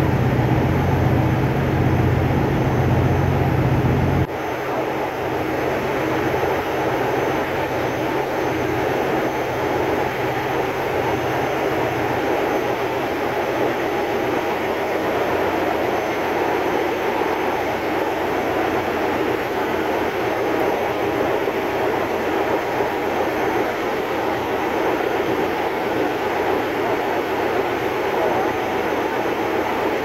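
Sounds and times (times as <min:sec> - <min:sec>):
diesel generator droning: 0:00.0 - 0:30.0.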